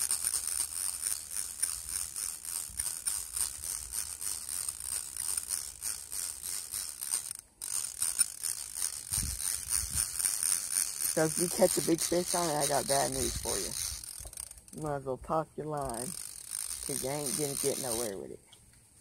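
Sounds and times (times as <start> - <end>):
fishing reel clicking: 0.0 - 15.0, 15.8 - 18.4.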